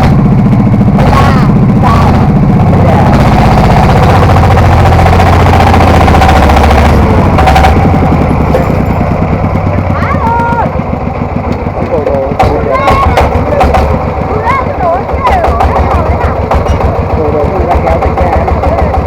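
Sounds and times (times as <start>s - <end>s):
diesel tractor engine chugging: 0.0s - 19.0s.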